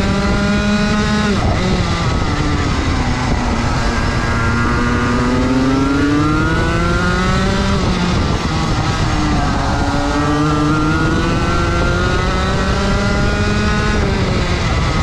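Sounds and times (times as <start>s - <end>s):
kart engine revving: 0.0s - 15.0s.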